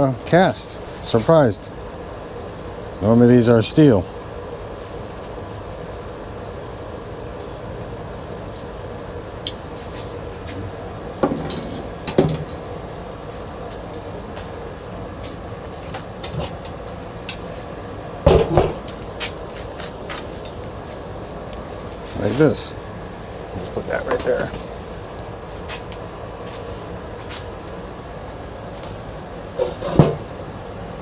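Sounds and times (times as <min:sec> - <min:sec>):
background hum: 0:00.0 - 0:31.0.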